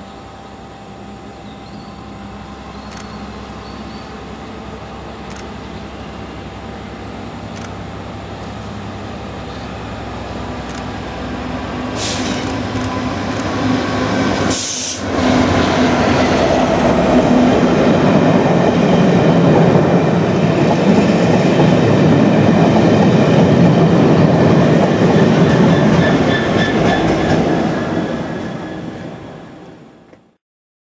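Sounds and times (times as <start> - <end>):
diesel locomotive engine drone: 0.0 - 30.4
train rumbling past: 0.8 - 30.1.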